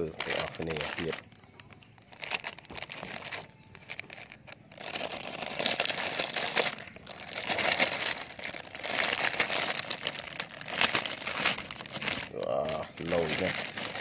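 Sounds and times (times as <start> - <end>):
plastic film crinkling: 0.0 - 14.0.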